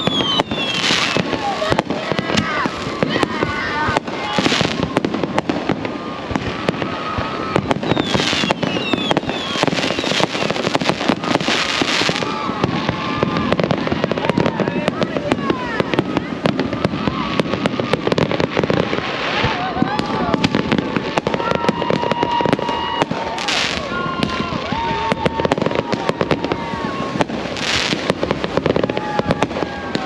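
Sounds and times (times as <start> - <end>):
fireworks bangs and pops: 0.0 - 30.0
fireworks crackle: 0.0 - 30.0
people's voices: 0.0 - 30.0.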